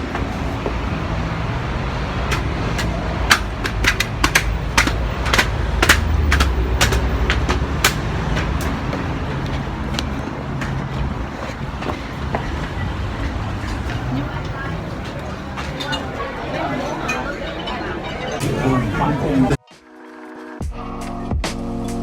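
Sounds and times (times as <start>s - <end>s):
vehicle interior rumble: 0.0s - 19.4s.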